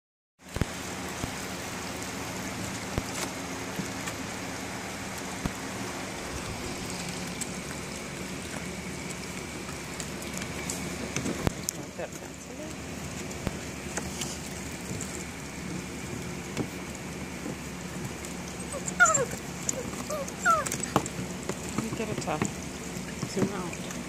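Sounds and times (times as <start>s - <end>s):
hose water splashing into pool: 0.4s - 24.0s.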